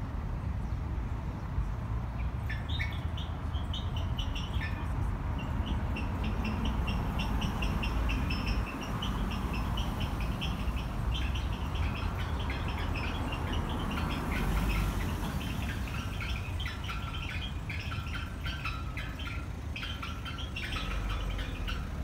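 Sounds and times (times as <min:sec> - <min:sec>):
small birds chirping: 0:00.6 - 0:22.0.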